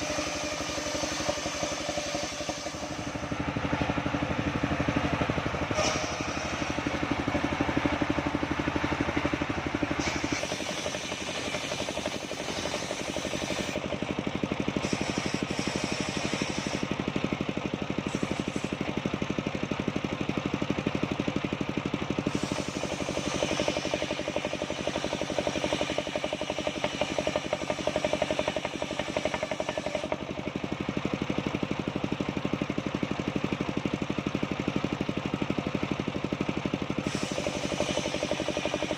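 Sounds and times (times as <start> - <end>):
band sawmill motor pulsing: 0.0 - 38.9.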